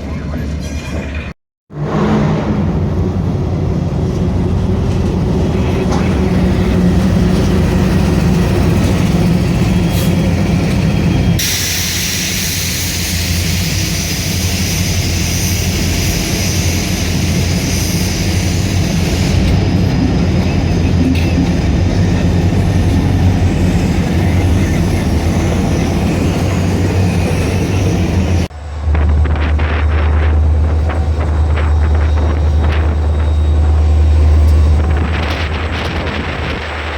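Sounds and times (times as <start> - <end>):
locomotive engine humming: 1.8 - 36.9.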